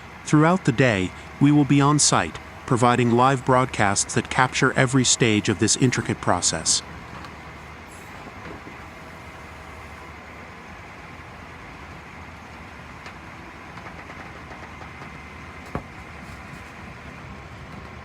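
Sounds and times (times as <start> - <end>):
large engine running: 0.0 - 18.0.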